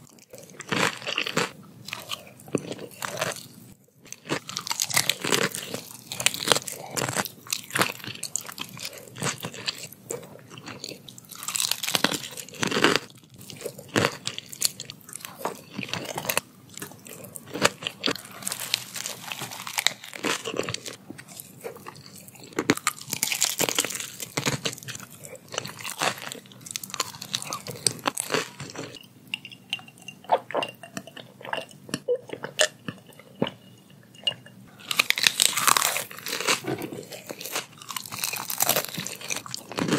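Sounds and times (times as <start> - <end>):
crunching crispy food: 0.0 - 29.0, 34.8 - 39.9.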